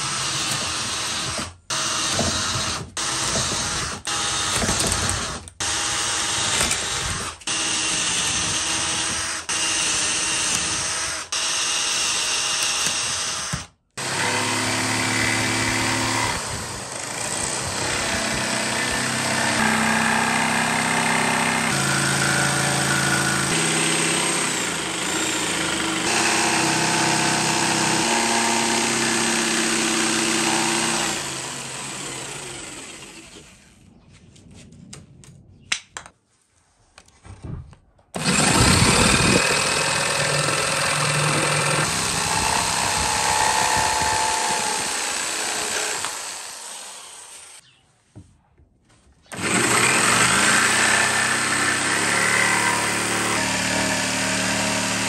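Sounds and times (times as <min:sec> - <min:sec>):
electric jigsaw cutting plywood: 0:00.0 - 0:33.6, 0:38.2 - 0:47.6, 0:49.3 - 0:55.0.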